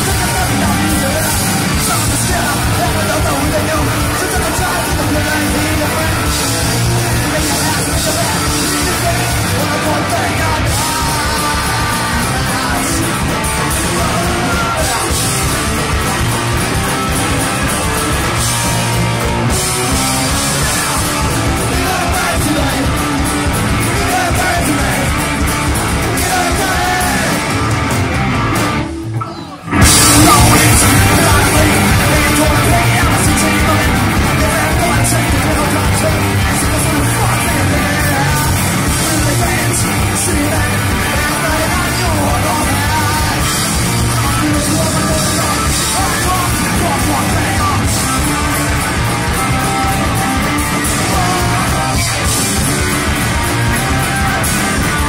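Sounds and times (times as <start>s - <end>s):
drums: 0.0s - 55.0s
electric guitar: 0.0s - 55.0s.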